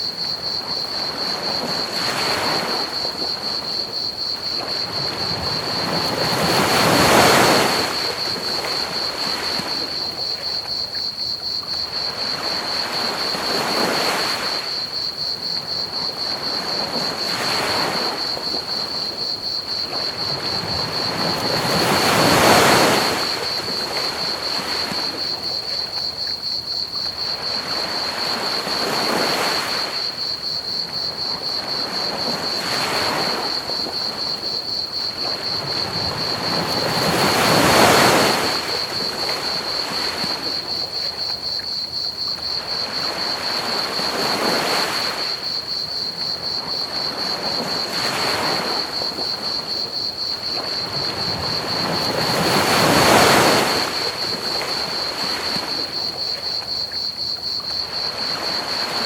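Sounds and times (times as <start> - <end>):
crickets chirping trill: 0.0 - 59.0
ocean waves washing onto beach: 0.0 - 59.0.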